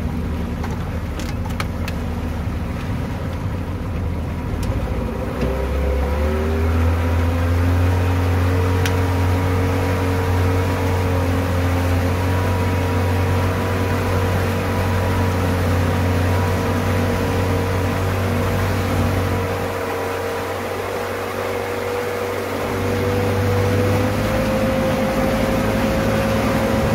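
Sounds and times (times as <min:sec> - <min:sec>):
outboard motor droning: 0:00.0 - 0:26.9.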